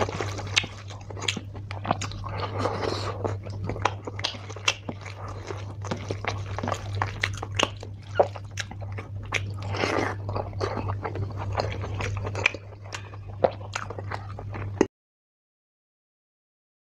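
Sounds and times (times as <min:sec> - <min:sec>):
steady low hum: 0:00.0 - 0:14.9
wet chewing with mouth clicks: 0:00.0 - 0:14.9.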